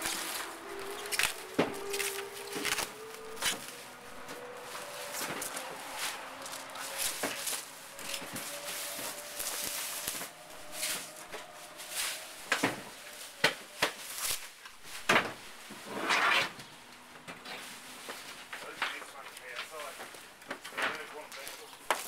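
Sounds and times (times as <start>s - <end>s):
rustle: 0.0s - 22.0s.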